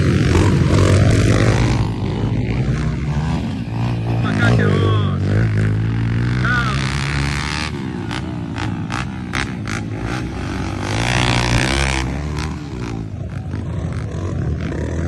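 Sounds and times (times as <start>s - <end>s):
motorcycle engine revving: 0.0s - 15.0s
rush of noise: 0.0s - 15.0s.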